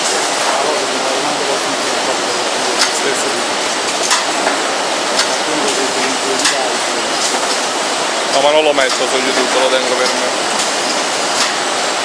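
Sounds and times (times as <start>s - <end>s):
machine hiss and hum: 0.0s - 12.0s.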